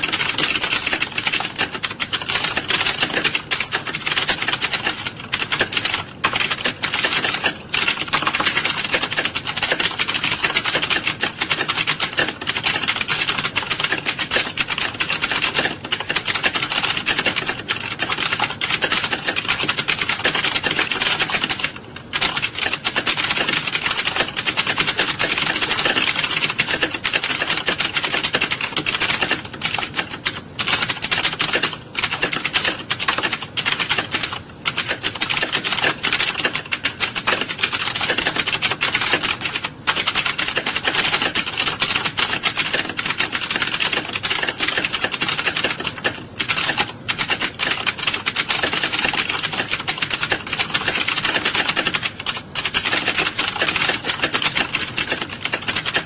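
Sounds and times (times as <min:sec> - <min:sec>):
keyboards clattering: 0:00.0 - 0:56.0.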